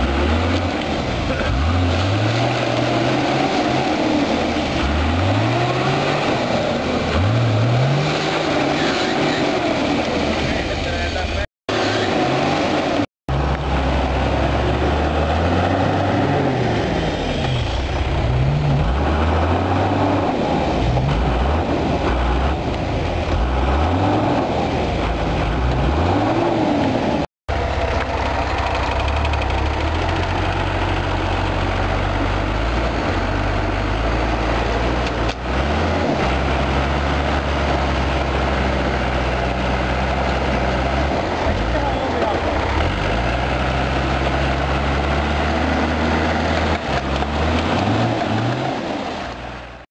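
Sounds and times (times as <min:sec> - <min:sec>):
off-road engine revving: 0:00.0 - 0:49.9.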